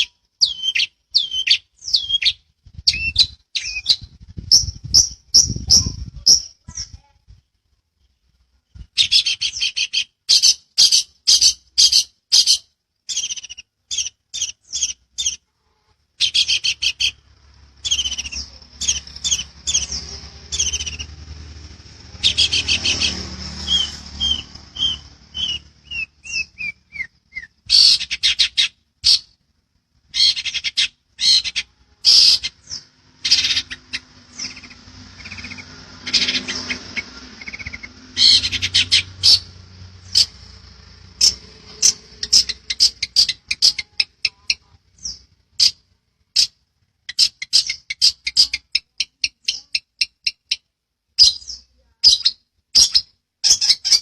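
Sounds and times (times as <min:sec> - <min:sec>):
bird harsh chattering song: 0:00.0 - 0:07.4, 0:08.0 - 0:15.5, 0:16.1 - 0:29.4, 0:30.0 - 0:54.0.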